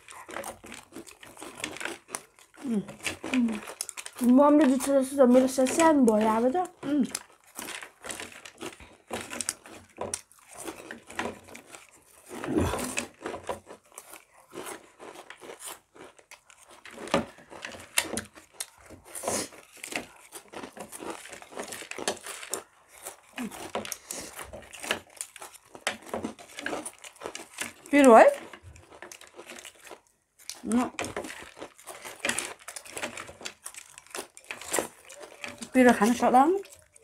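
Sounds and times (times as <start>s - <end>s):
crunchy snacks being chewed: 0.0s - 37.0s.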